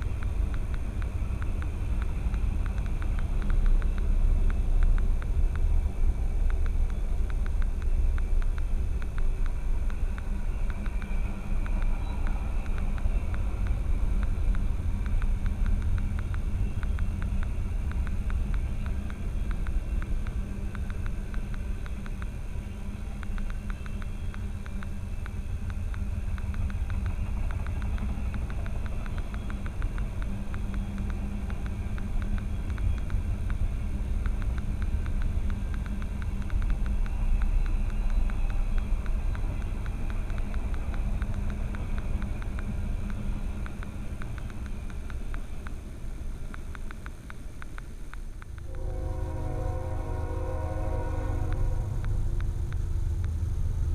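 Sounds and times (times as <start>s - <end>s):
fast faint ticking: 0.0s - 48.8s, 51.4s - 53.9s
vehicle rumble: 0.0s - 53.9s.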